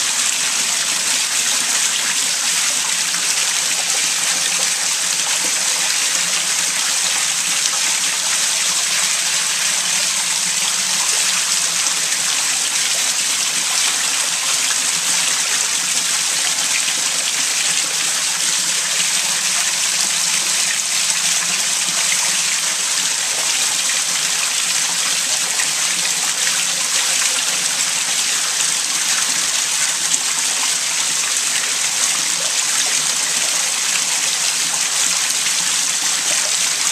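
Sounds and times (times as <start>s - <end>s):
water rushing through drain: 0.0s - 36.9s.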